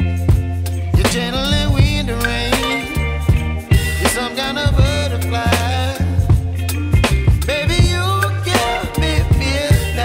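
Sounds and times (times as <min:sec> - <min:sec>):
song with drums and bass: 0:00.0 - 0:10.0.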